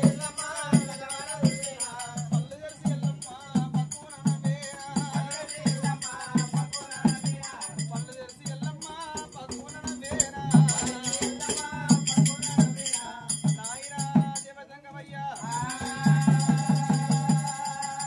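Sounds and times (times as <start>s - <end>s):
barrel drum beaten in folk rhythm: 0.0s - 14.4s, 15.4s - 18.0s
metallic jingling percussion: 0.0s - 14.5s, 15.4s - 18.0s.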